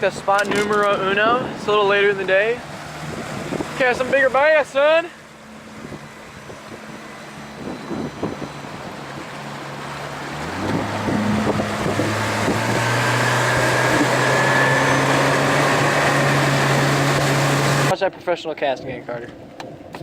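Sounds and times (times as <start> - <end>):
boat motor running: 0.0 - 18.0
rush of wind and water: 0.0 - 18.0.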